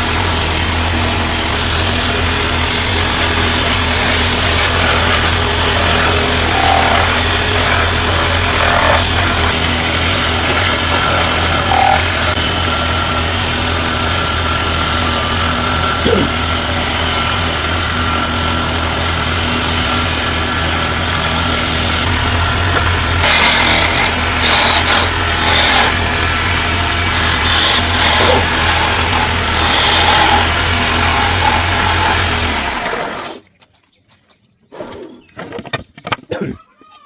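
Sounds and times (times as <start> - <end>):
motor humming: 0.0 - 33.4.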